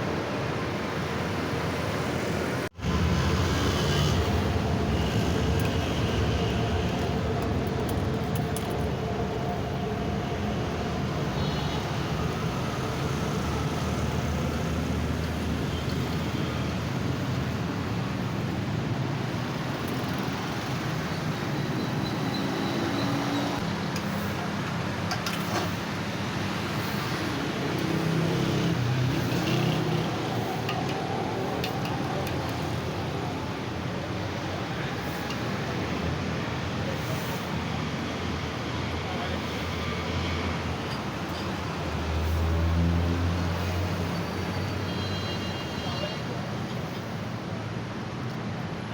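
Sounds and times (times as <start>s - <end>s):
road traffic passing: 0.0s - 48.9s.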